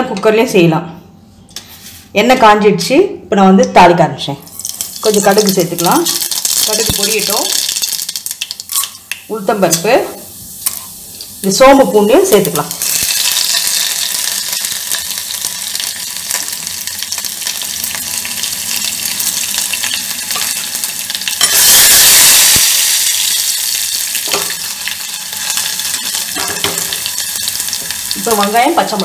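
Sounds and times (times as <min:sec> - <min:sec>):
hot oil sizzling and crackling: 0:04.5 - 0:29.0.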